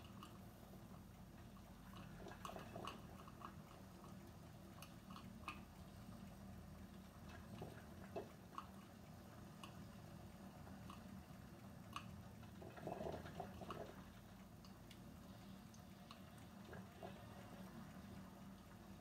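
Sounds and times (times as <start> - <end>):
coffee maker drips and ticks: 0.0 - 19.0
coffee maker gurgle: 0.0 - 19.0
low steady hum: 0.0 - 19.0.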